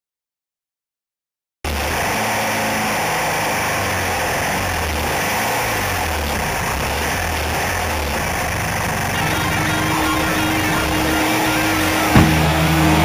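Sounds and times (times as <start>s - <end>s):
buggy engine idling: 1.7s - 13.0s.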